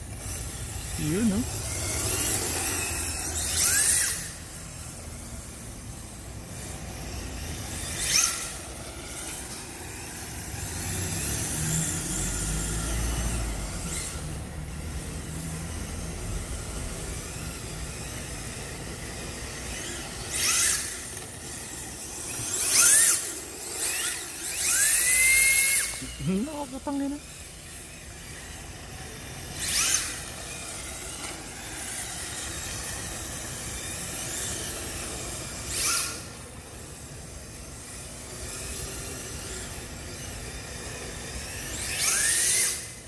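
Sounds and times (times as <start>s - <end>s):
electric motor whine: 0.0s - 43.0s.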